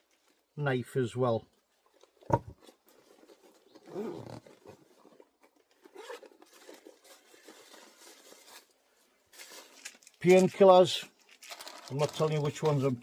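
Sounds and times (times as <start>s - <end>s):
camping gear rustling in bag: 0.0s - 0.6s, 1.6s - 13.0s.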